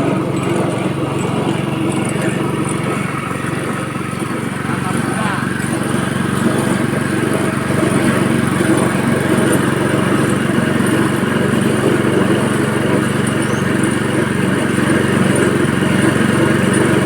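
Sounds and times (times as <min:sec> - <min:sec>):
press machine droning: 0:00.0 - 0:17.0.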